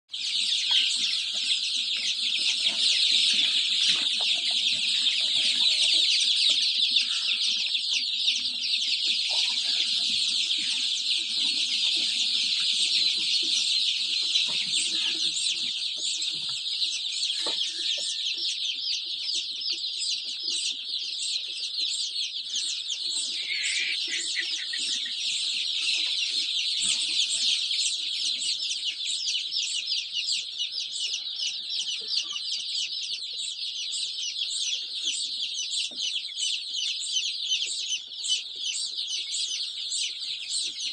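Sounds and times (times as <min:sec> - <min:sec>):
baby chicks peeping: 0:00.1 - 0:40.9.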